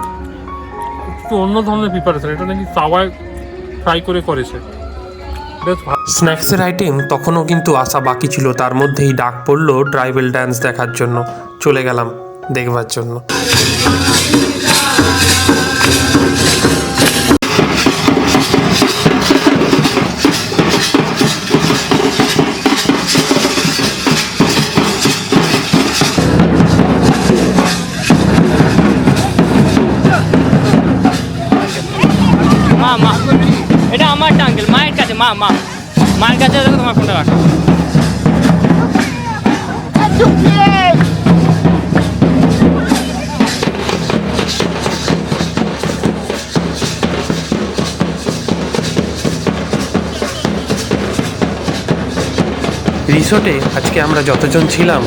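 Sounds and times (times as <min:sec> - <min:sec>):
drums playing fast rhythm: 0:05.6 - 0:09.8, 0:13.3 - 0:55.0.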